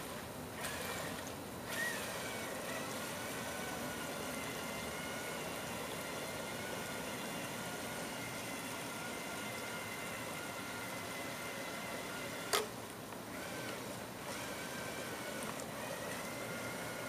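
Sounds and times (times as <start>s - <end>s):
small electric motor whining: 0.0s - 12.7s, 13.3s - 17.0s.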